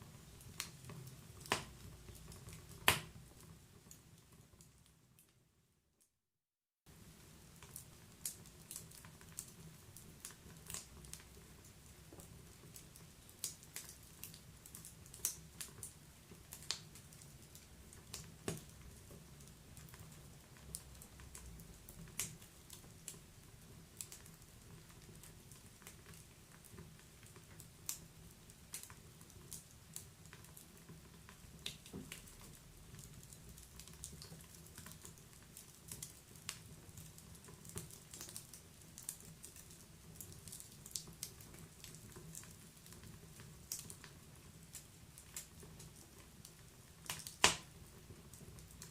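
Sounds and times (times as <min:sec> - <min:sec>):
wood fire pops and snaps: 0:00.4 - 0:04.6, 0:07.5 - 0:48.9.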